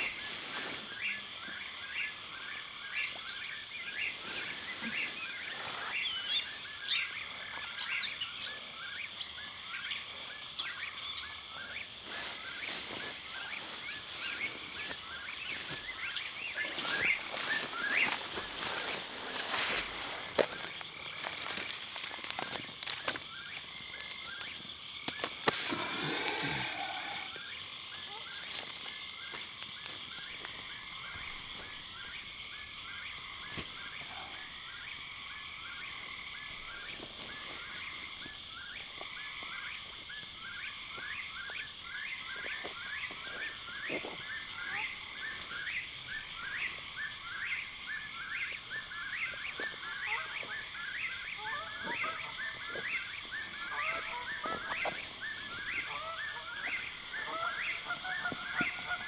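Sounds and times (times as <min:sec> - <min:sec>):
frogs trilling: 0:00.0 - 0:59.0
frogs short calls: 0:09.6 - 0:59.0.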